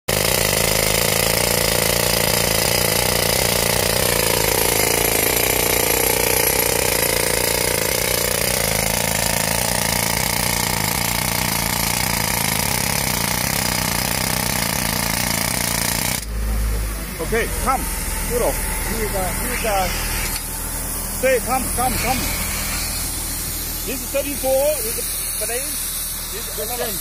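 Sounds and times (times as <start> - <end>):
pneumatic rock drill hammering: 0.1 - 27.0.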